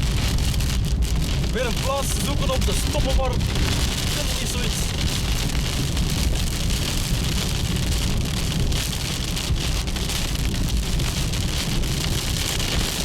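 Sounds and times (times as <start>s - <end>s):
low rumble: 0.0s - 12.8s
heavy rain pelting a car: 0.0s - 13.0s.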